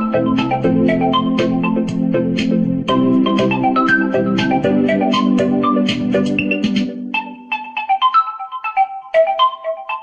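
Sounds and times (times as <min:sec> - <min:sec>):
smartphone ringtone melody: 0:00.0 - 0:02.1, 0:02.9 - 0:10.0.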